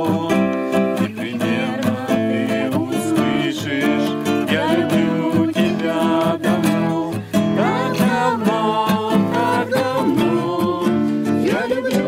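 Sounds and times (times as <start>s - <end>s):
acoustic guitar strumming: 0.0s - 12.0s
voices singing a hymn: 0.0s - 12.0s.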